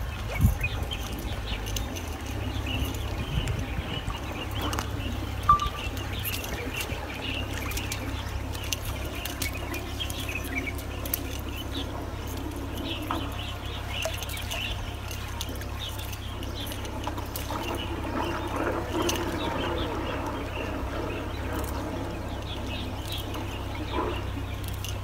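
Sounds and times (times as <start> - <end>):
water trickling and dripping: 0.0 - 25.0
small ticks and chirps: 0.3 - 25.0.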